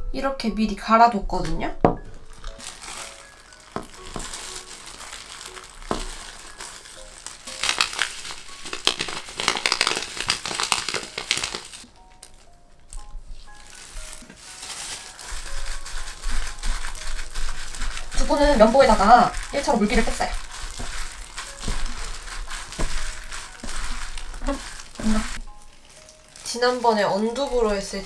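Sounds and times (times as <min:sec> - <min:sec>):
plastic gloves crinkling: 0:02.0 - 0:28.0
hands squeezing tofu: 0:02.6 - 0:11.8, 0:12.9 - 0:26.6.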